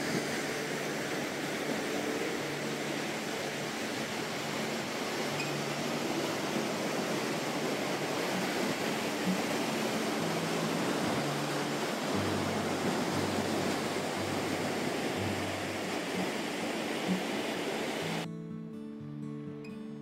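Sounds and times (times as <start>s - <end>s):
waves breaking on beach: 0.0s - 18.3s.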